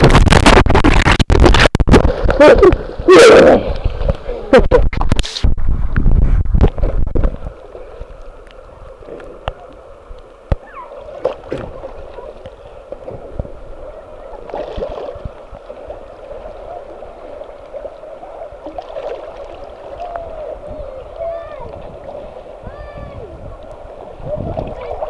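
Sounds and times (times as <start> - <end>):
whitewater splashing: 0.0 - 5.4, 6.8 - 25.0
water gurgling against kayak: 0.0 - 25.0.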